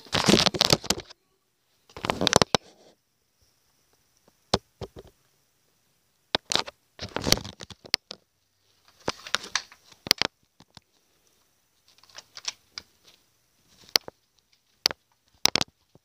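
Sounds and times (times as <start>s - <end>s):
recorder handling noise: 0.0s - 1.2s, 1.8s - 3.0s, 3.9s - 5.3s, 6.3s - 16.0s.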